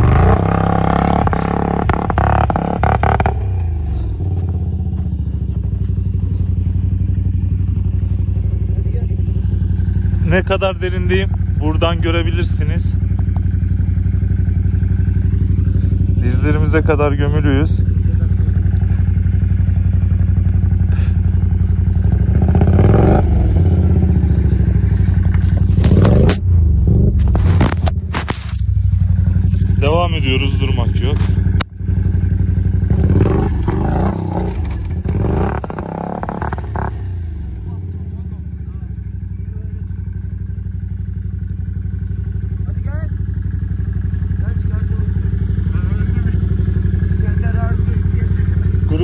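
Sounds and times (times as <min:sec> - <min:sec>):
atv engine idling: 0:00.0 - 0:49.0.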